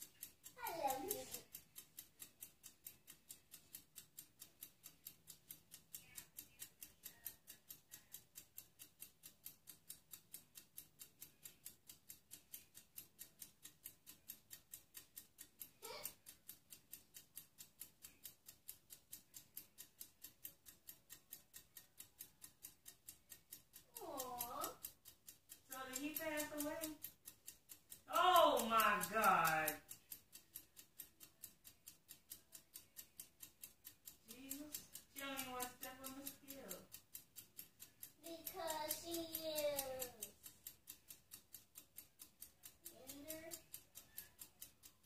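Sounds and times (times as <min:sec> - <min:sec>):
faint even ticking: 0:00.0 - 0:45.0.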